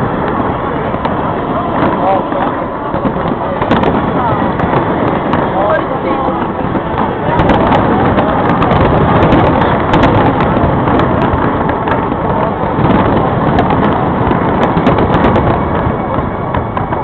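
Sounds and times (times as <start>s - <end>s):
fireworks barrage: 0.0s - 17.0s
fireworks crackling: 0.0s - 17.0s.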